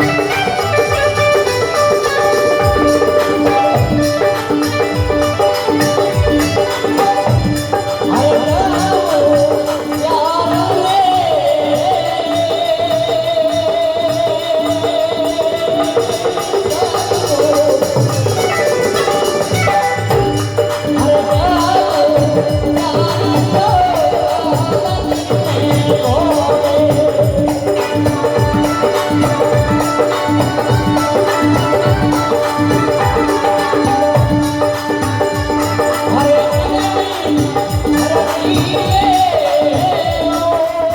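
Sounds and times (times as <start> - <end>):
ornamented held melody: 0.0 - 10.1, 16.6 - 40.9
hand percussion: 0.0 - 40.9.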